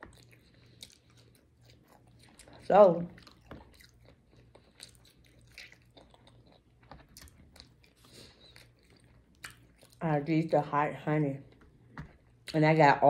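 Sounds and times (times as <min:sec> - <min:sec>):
quiet chewing: 0:00.0 - 0:10.2, 0:11.4 - 0:12.6.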